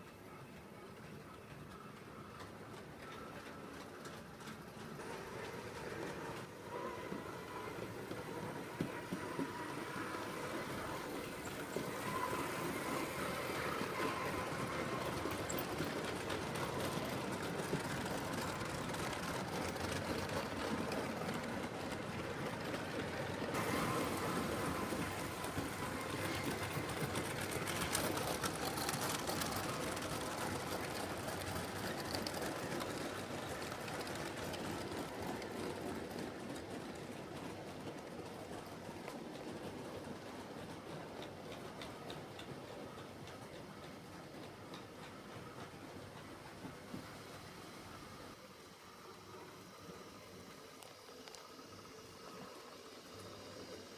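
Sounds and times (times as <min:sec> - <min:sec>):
model train wheels rumbling on rails: 0:00.0 - 0:53.9.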